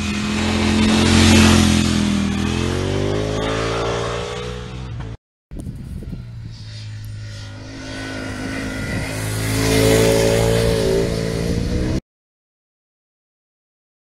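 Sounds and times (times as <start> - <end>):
motorcycle engine approaching: 0.0 - 12.0.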